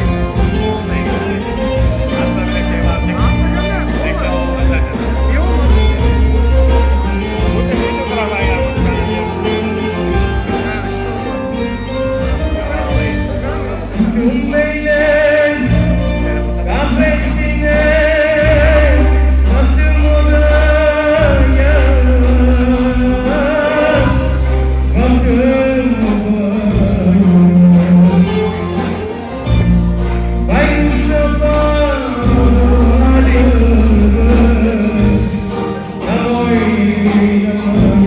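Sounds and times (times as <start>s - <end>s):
bass accompaniment: 0.0s - 38.0s.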